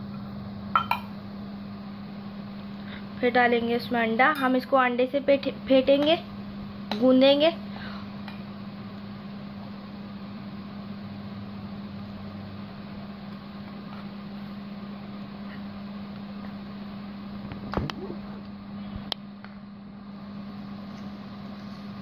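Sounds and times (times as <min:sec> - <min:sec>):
low mechanical hum with hiss: 0:00.0 - 0:22.0.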